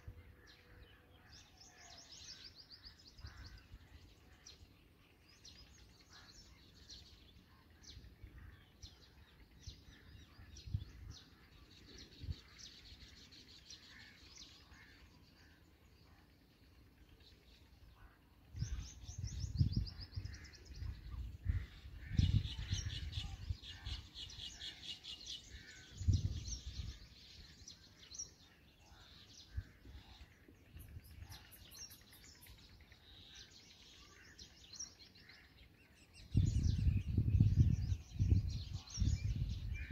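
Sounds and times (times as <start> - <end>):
birds high chirps: 0.0 - 39.9.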